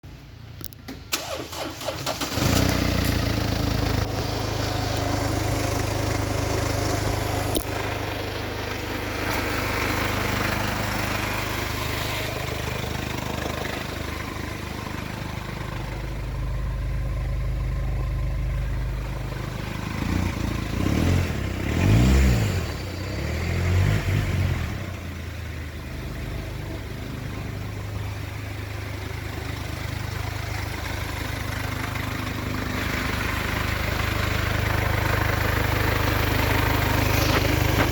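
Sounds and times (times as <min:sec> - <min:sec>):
diesel engine idling and revving: 0:00.0 - 0:37.9.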